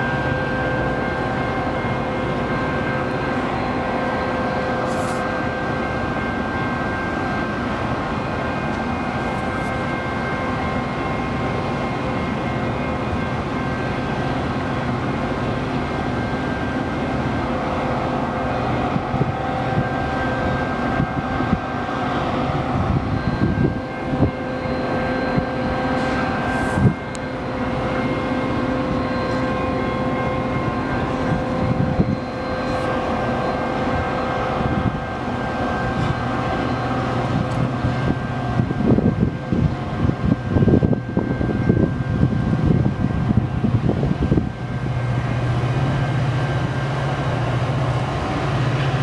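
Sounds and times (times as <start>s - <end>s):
constant humming tones: 0.0s - 49.0s.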